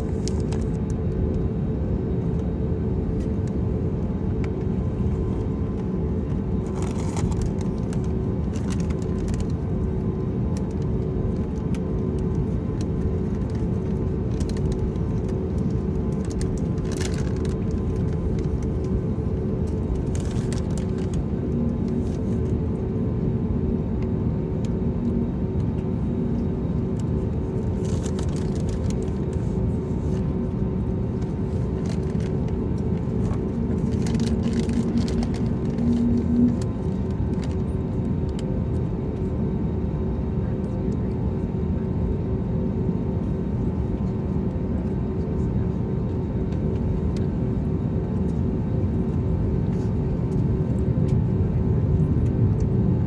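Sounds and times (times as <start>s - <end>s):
aircraft cabin engine hum: 0.0s - 53.0s.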